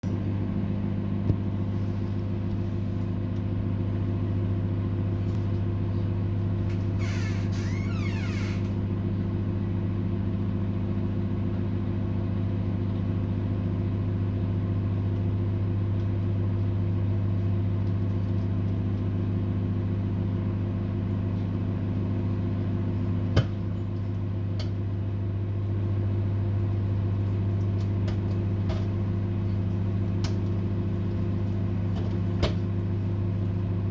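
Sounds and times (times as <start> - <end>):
microwave oven humming: 0.0 - 33.9.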